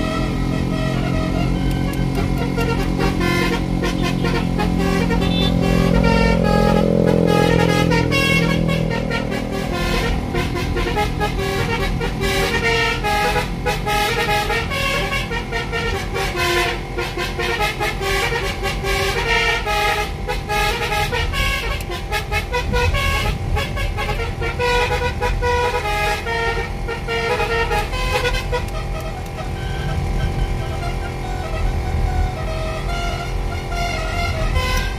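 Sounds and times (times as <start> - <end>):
car and road rumble: 0.0 - 34.9
multi-tone horn playing a tune: 0.0 - 34.9.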